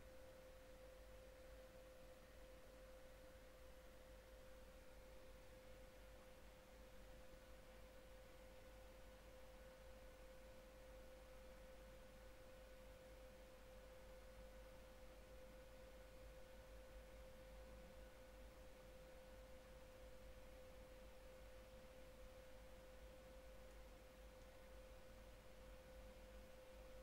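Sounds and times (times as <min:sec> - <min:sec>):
faint steady hum: 0:00.0 - 0:27.0
low hiss: 0:00.0 - 0:27.0.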